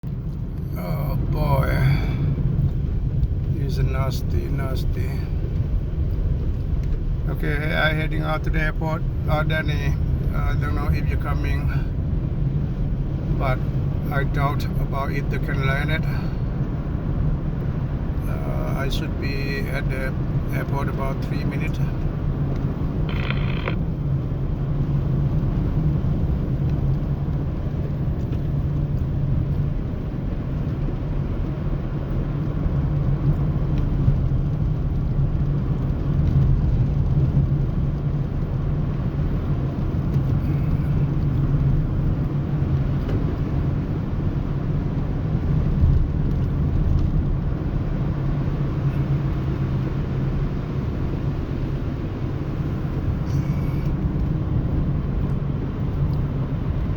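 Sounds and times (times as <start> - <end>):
car engine hum: 0.0 - 56.9
road and tyre noise: 0.0 - 56.9.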